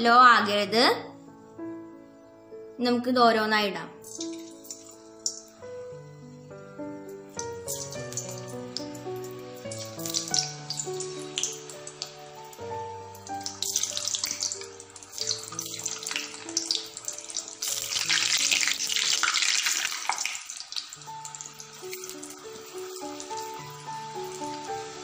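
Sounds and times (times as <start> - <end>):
background music with melody: 0.0 - 25.0
potatoes sizzling in hot oil: 4.0 - 5.9, 6.6 - 25.0.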